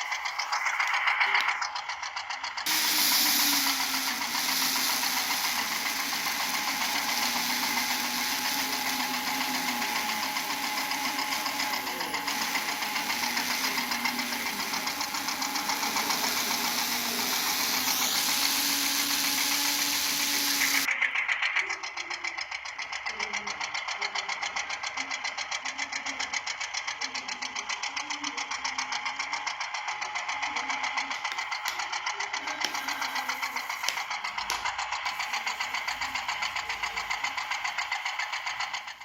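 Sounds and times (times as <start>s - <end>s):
small electric motor whirring: 0.0s - 39.0s.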